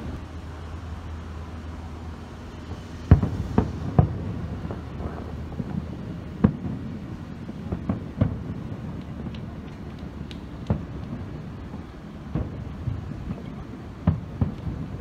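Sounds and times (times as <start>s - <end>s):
fireworks booming: 0.0s - 15.0s
steady low rumble: 0.0s - 15.0s.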